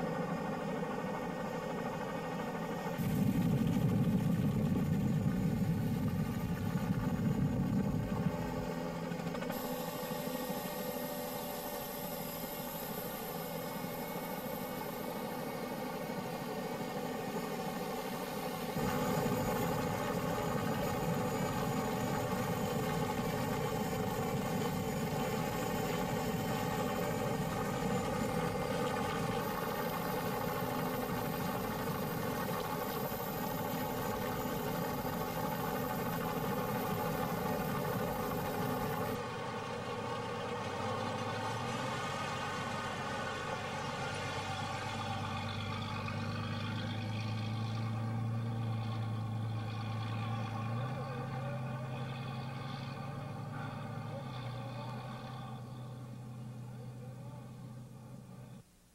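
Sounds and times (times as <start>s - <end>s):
helicopter engine and rotor droning: 0.0s - 58.6s.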